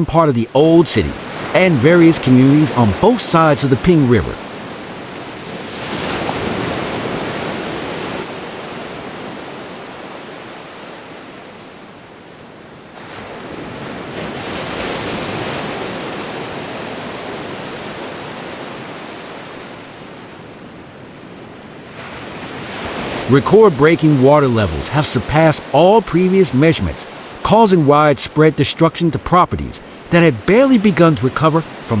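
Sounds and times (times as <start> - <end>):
rushing floodwater: 0.0 - 32.0.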